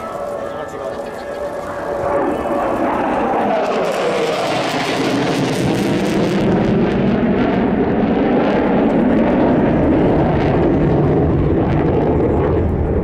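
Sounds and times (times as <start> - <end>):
fighter jet roar: 0.0 - 13.0.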